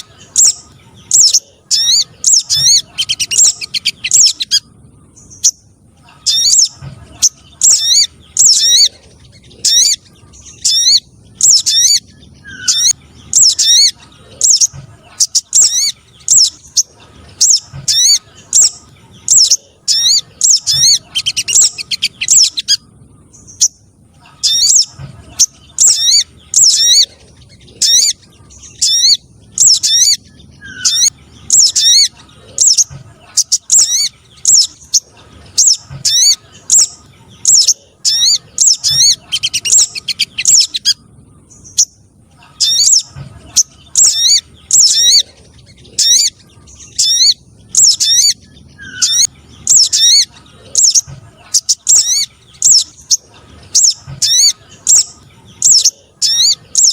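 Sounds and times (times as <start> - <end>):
recorded bird calls: 0.0 - 56.9.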